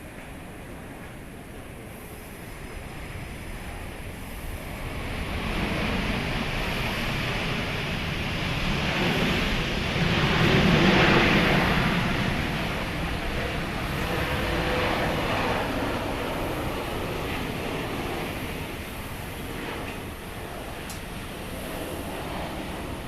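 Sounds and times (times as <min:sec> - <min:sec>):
jet airliner engine roar: 0:00.0 - 0:23.0.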